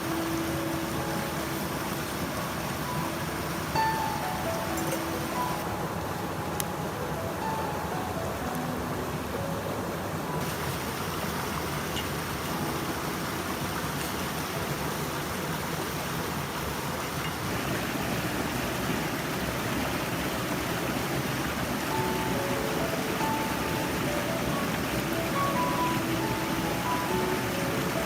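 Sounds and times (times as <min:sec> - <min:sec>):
faint music: 0:00.0 - 0:16.8, 0:17.6 - 0:28.0
running water rushing: 0:00.0 - 0:28.0.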